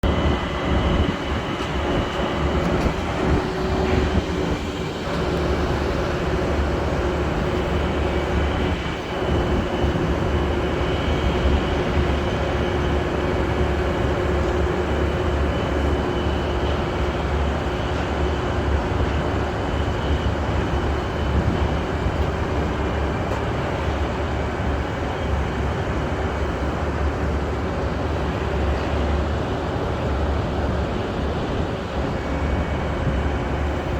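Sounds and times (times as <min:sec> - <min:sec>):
heavy machinery rumbling: 0:00.0 - 0:33.9
steady droning hum: 0:00.0 - 0:33.9.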